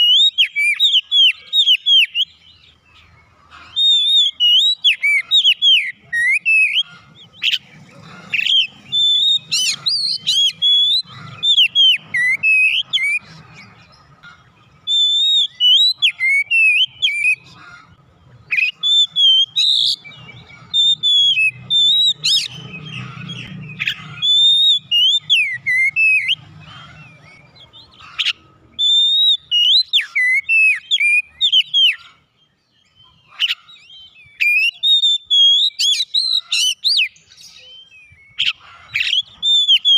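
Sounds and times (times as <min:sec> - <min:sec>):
bird singing whistled phrases: 0:00.0 - 0:02.9, 0:03.8 - 0:07.6, 0:08.4 - 0:13.3, 0:14.8 - 0:17.6, 0:18.5 - 0:26.4, 0:28.8 - 0:32.0, 0:32.7 - 0:39.9.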